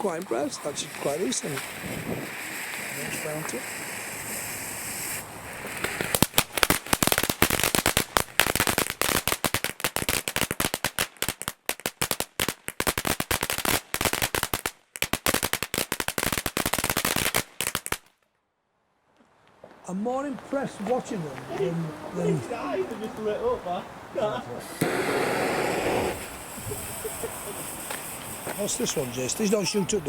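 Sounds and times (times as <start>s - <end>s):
crackling firework fountain: 0.0s - 18.2s, 19.4s - 30.0s.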